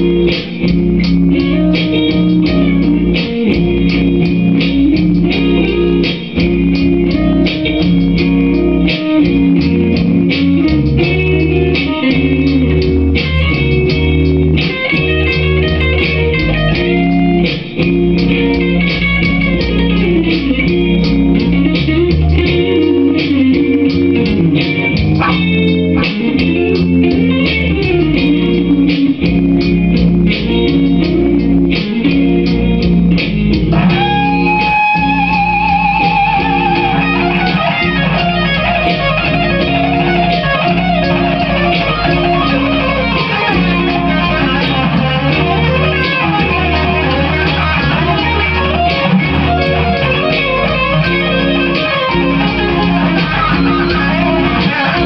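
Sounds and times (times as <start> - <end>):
backing track: 0.0 - 55.0
electric guitar rock riff: 0.0 - 55.0.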